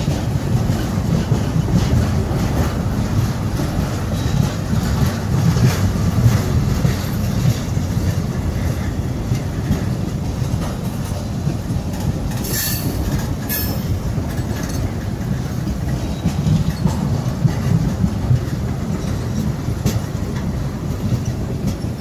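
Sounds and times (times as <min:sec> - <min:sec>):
freight train rumbling past: 0:00.0 - 0:22.0
wheels clacking over rails: 0:00.0 - 0:22.0.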